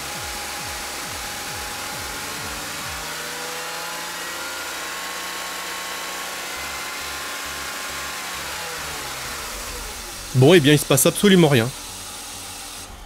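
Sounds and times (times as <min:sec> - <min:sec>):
car engine running above idle: 0:00.0 - 0:04.8, 0:06.6 - 0:13.0.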